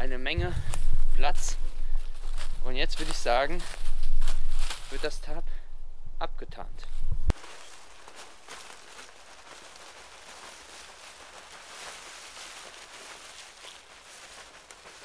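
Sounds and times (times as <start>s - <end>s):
dry leaves rustling and crackling: 0.6s - 5.4s, 7.3s - 15.0s.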